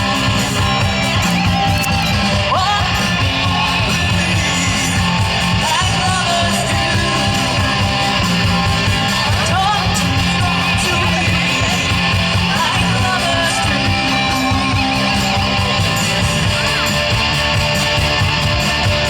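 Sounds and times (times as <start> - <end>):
rock music with guitar: 0.0 - 19.0.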